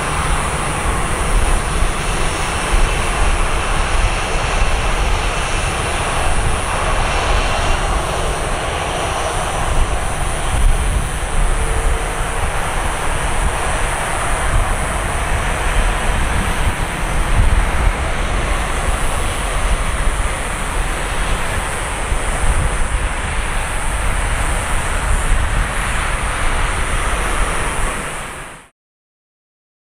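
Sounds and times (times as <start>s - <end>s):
wind buffeting on microphone: 0.0s - 28.6s
jet engines running: 0.0s - 28.7s.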